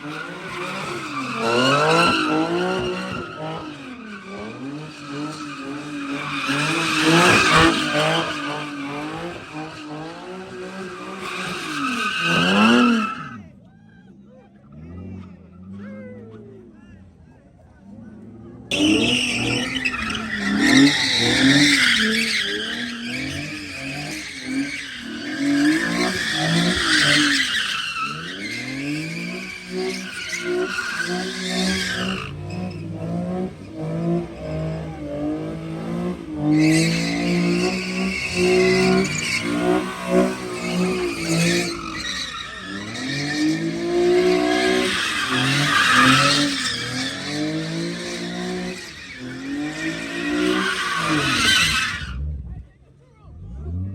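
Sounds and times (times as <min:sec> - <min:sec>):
tyres screeching on pavement: 0:00.0 - 0:13.6, 0:17.8 - 0:52.2
car engine revving: 0:00.0 - 0:53.9.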